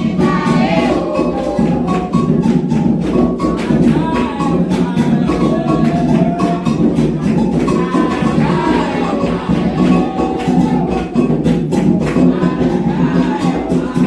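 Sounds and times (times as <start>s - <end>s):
hand drums beating fast rhythm: 0.0s - 14.0s
voices singing a chant: 0.0s - 14.0s.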